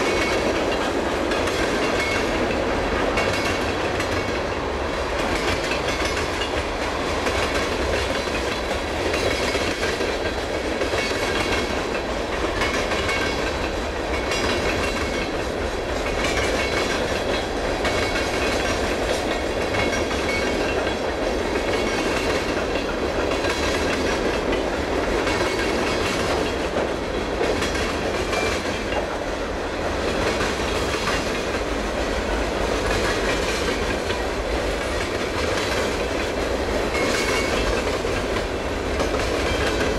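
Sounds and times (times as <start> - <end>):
wheels clicking over rail joints: 0.0 - 29.4, 30.0 - 39.9.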